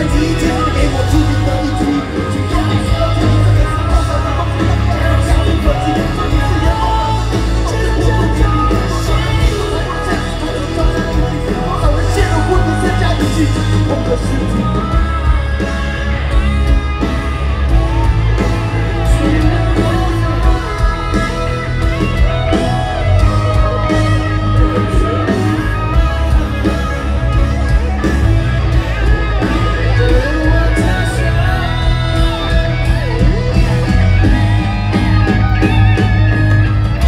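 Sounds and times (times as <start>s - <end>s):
electric guitar: 0.0s - 37.0s
heavy bass: 0.0s - 37.0s
person singing: 0.0s - 37.0s.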